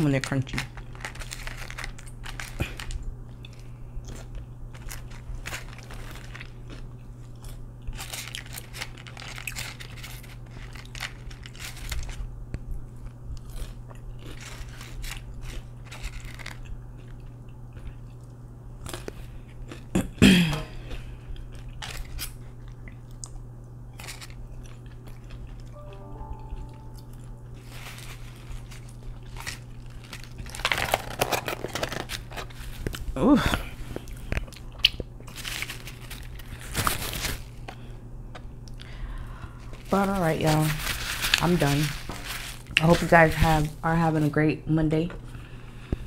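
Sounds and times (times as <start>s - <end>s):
chewing and crunching fries: 0.0s - 44.1s.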